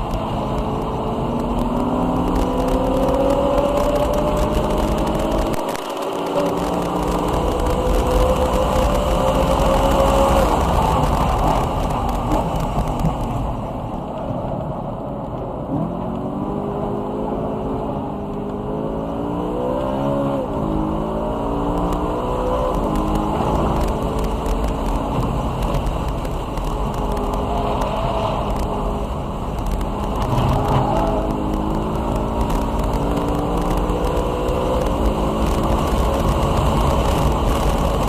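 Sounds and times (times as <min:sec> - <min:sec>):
car engine revving: 0:00.0 - 0:13.9, 0:15.6 - 0:38.0
road and wind noise: 0:00.0 - 0:38.0.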